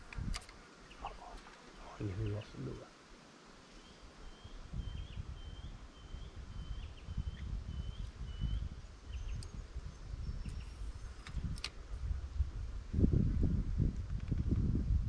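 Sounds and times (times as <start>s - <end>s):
wind buffeting microphone: 0.0s - 2.8s, 4.5s - 15.0s.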